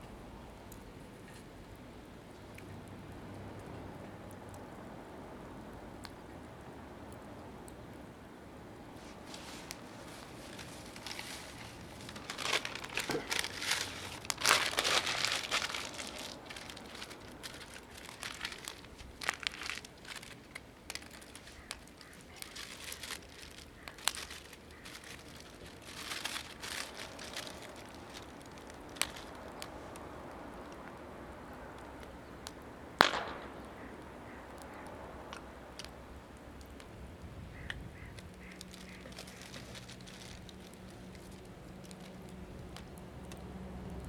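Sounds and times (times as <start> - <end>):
wood fire crackling and popping: 0.6 - 44.0.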